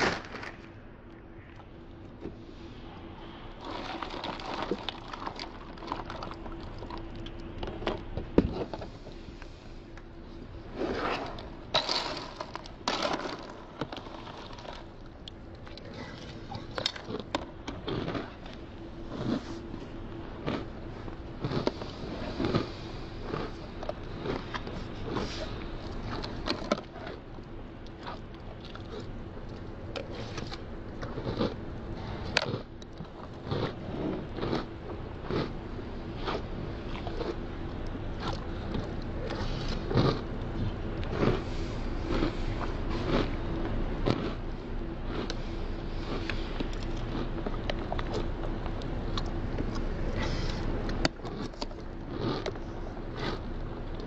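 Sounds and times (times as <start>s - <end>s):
crunchy chewing: 0.0s - 54.0s
faint steady hum: 0.0s - 54.0s.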